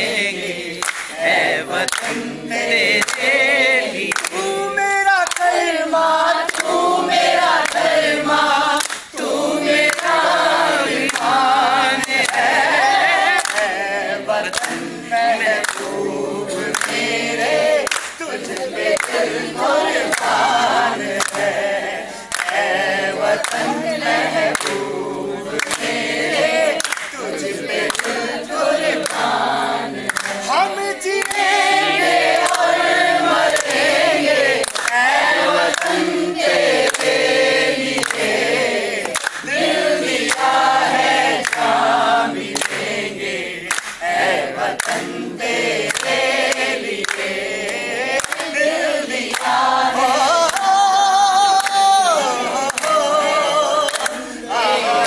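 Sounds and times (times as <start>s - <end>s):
group singing in unison: 0.0s - 55.0s
hands clapping: 0.0s - 55.0s.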